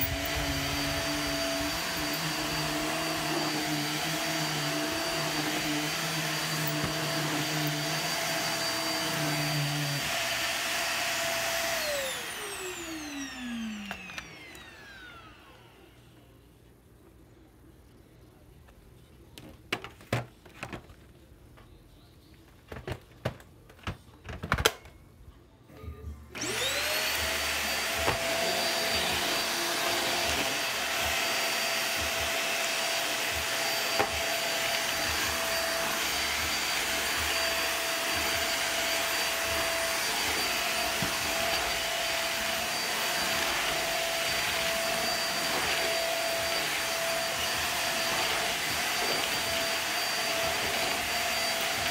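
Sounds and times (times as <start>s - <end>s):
vacuum cleaner motor whine: 0.0s - 16.4s, 26.3s - 51.9s.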